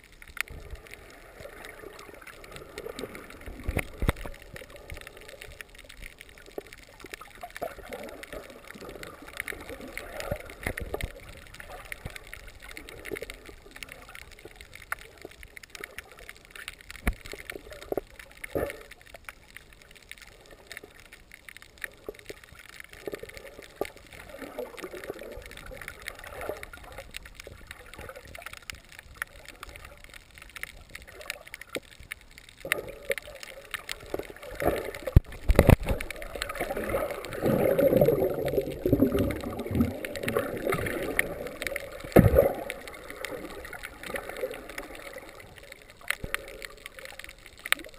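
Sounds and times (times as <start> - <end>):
underwater gurgling and bubbling: 0.0 - 47.9
underwater clicks and knocks: 1.6 - 47.9.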